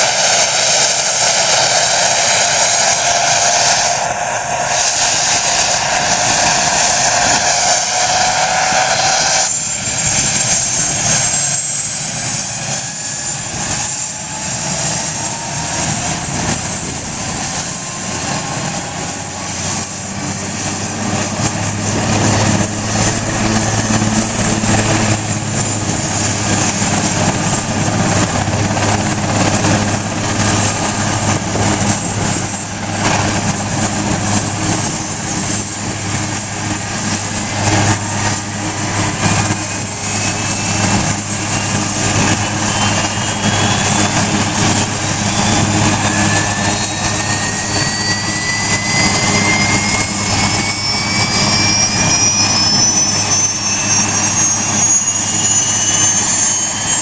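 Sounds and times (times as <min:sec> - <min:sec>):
helicopter rotor low drone: 0:00.0 - 0:57.0
high turbine whine: 0:00.0 - 0:57.0.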